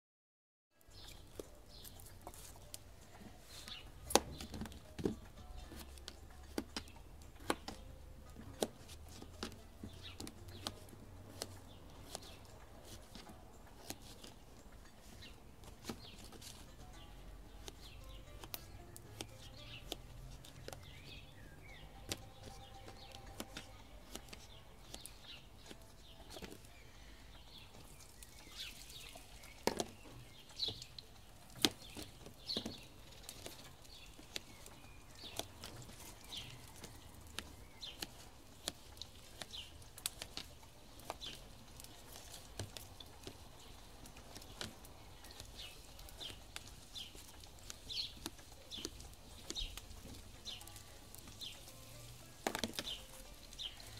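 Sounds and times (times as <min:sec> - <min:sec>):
birds chirping: 0:00.8 - 0:53.9.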